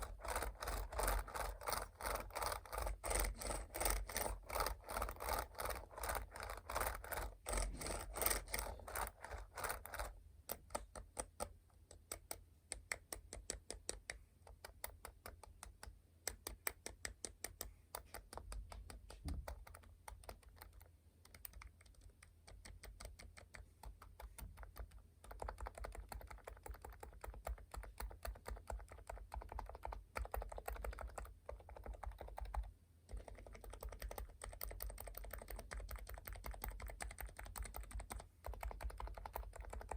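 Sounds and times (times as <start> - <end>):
rapid keyboard typing: 0.0 - 39.9.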